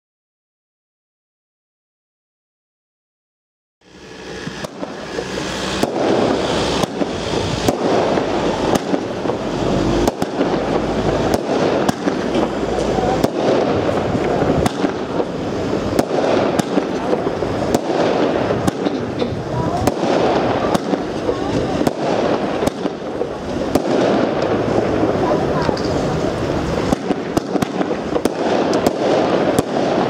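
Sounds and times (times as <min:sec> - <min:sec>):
dense rushing noise: 0:03.8 - 0:30.0
fireworks battery firing: 0:03.8 - 0:30.0.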